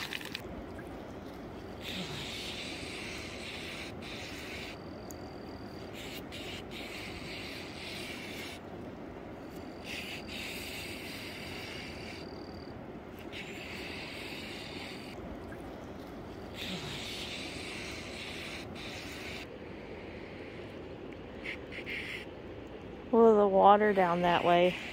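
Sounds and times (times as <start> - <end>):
wind: 0.0 - 24.9.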